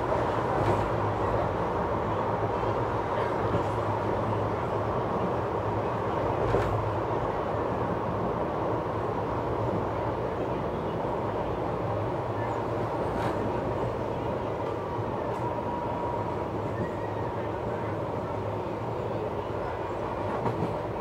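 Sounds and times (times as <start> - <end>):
wheels rumbling on rails: 0.0 - 21.0.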